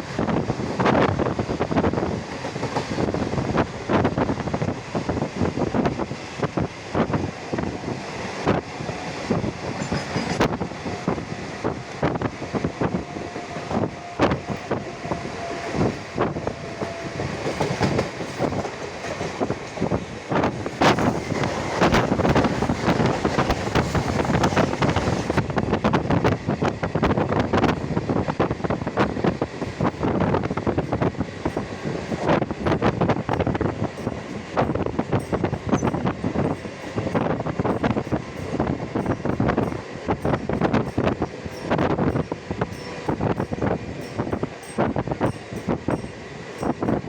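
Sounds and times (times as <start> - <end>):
train wheels rattling on rails: 0.0 - 47.0.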